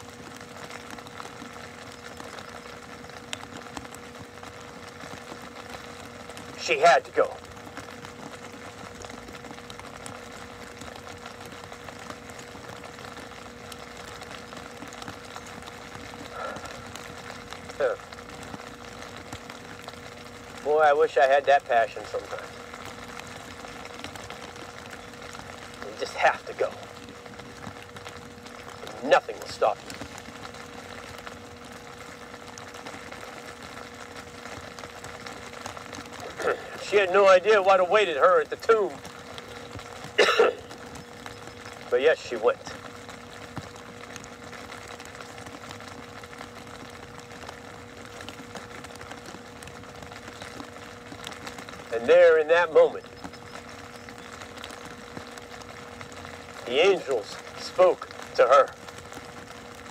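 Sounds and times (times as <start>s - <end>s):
faint constant tone: 0.0s - 59.9s
low background hum: 0.0s - 59.9s.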